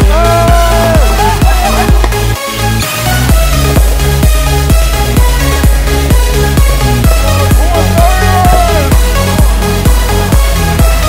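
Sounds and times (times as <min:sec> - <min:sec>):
kick drum: 0:00.0 - 0:02.4, 0:03.3 - 0:11.0
electronic dance music: 0:00.0 - 0:11.0.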